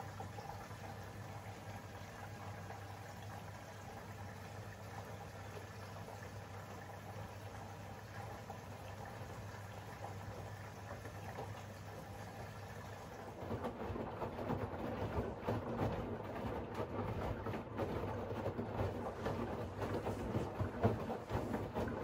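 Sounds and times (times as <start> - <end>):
laundry and water sloshing in drum: 0.0 - 22.0
washing machine hum: 0.0 - 22.0.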